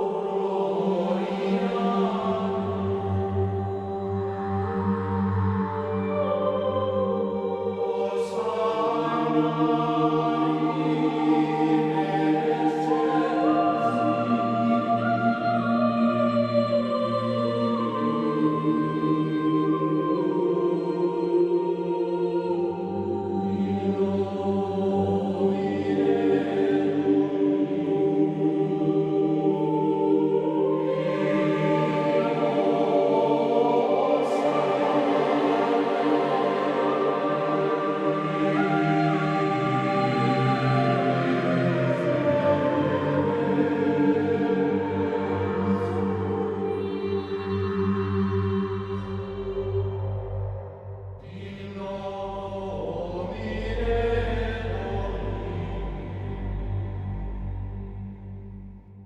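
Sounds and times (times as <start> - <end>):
ambient music sustained chords: 0.0 - 59.0.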